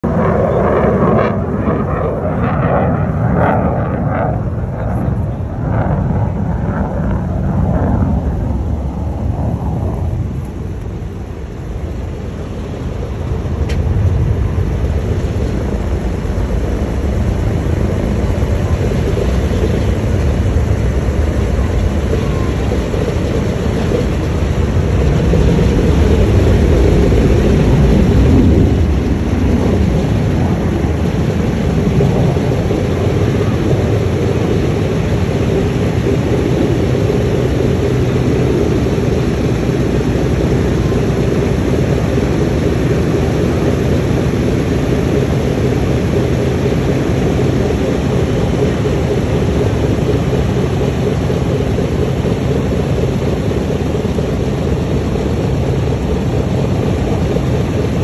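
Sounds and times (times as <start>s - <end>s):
aircraft radial engines droning: 0.0s - 58.0s.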